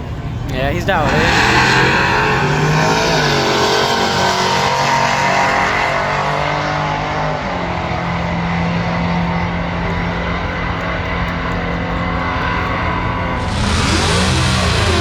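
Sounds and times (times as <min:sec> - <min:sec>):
loud truck engine running: 0:00.0 - 0:15.0.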